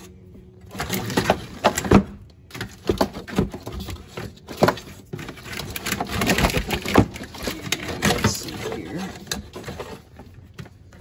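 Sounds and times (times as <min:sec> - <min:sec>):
wiring harness rustling and scraping: 0:00.0 - 0:11.0.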